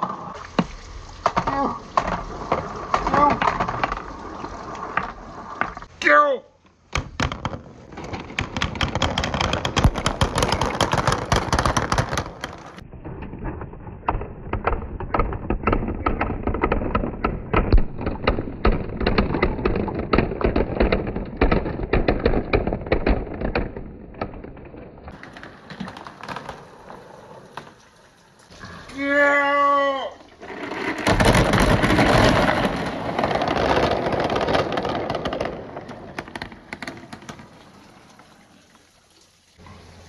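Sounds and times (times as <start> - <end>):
marbles clattering down track: 0.6 - 5.9, 7.0 - 12.8, 13.5 - 27.8, 29.9 - 38.3.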